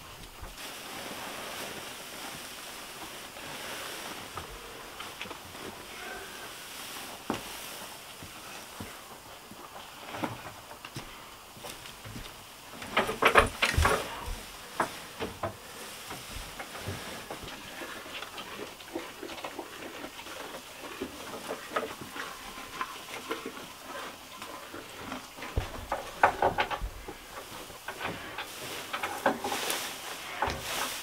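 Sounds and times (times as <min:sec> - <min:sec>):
cow chewing hay: 0:00.0 - 0:31.0
dry hay rustling and crackling: 0:00.0 - 0:31.0.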